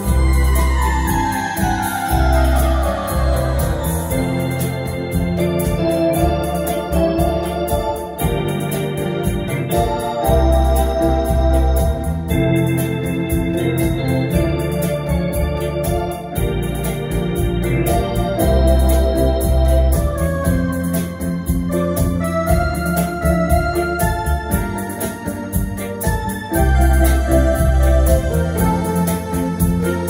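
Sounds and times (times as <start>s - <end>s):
electronic organ playing: 0.0s - 30.0s
steady drum rhythm: 0.0s - 30.0s.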